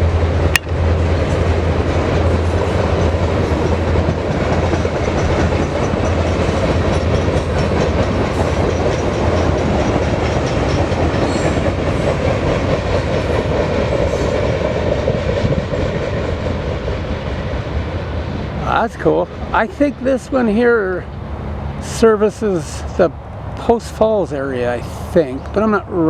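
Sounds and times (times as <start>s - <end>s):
freight train cars rolling: 0.0s - 26.0s
wheels clacking over rail joints: 0.1s - 26.0s.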